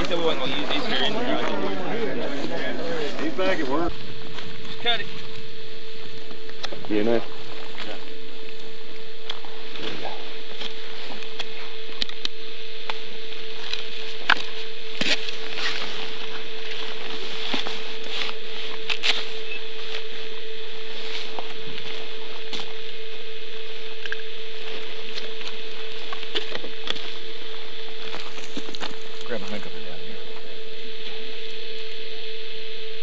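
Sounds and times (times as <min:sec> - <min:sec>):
crackles and clicks: 0:00.0 - 0:33.0
steady hum and hiss: 0:00.0 - 0:33.0.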